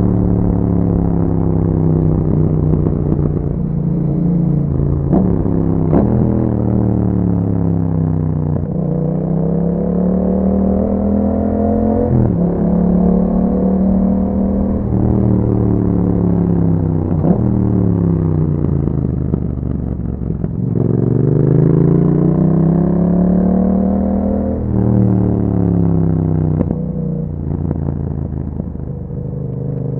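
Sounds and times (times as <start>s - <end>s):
motorcycle engine accelerating: 0.0s - 29.9s.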